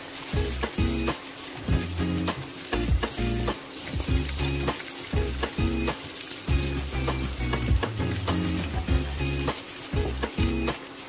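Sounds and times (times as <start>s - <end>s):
eggs sizzling in hot oil: 0.0s - 11.0s
wooden spatula scraping wok: 0.0s - 11.0s
background music with bass: 0.4s - 10.8s.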